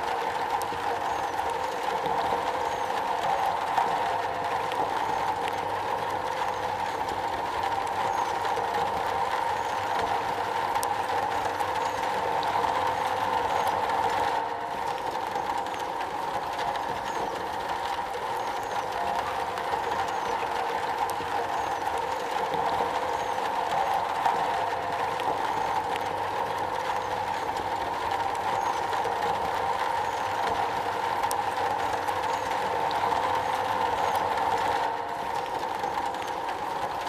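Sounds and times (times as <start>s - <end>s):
rain on a metal roof: 0.0s - 37.0s.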